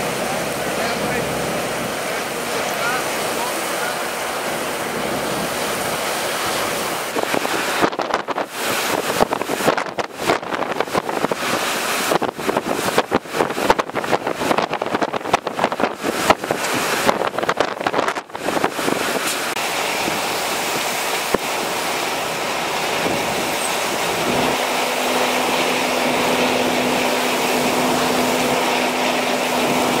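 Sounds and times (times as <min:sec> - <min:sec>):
driving rain: 0:00.0 - 0:30.0
gusts buffeting microphone: 0:00.0 - 0:30.0
strong wind: 0:00.0 - 0:30.0.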